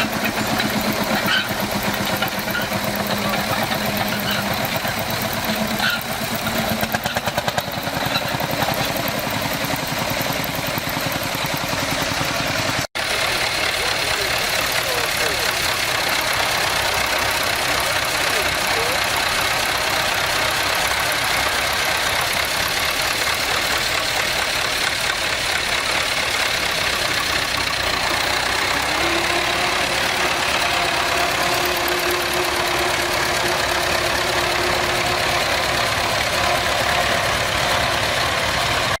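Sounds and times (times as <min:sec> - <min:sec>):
tractor engine pulsing: 0:00.0 - 0:39.0.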